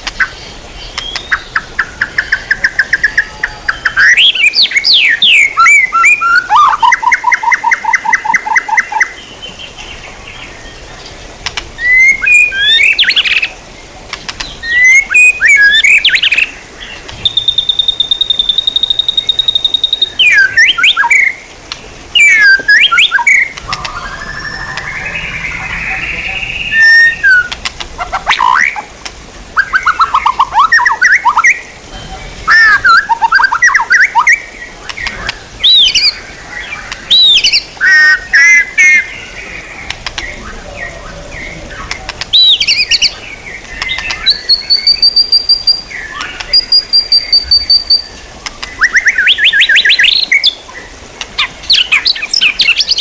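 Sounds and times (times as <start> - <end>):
songbird singing trills and whistles: 0.0 - 11.2, 11.8 - 13.5, 14.1 - 21.5, 22.1 - 28.9, 29.6 - 53.0.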